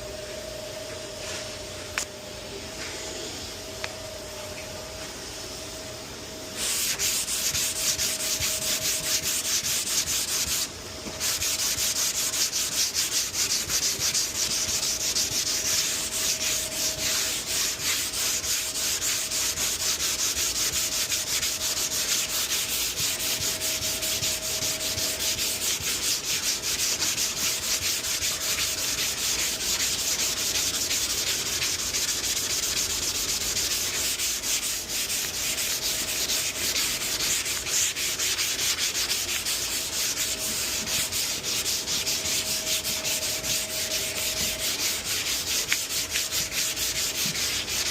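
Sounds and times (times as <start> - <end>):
sandpaper scraping car paint: 6.6 - 47.9.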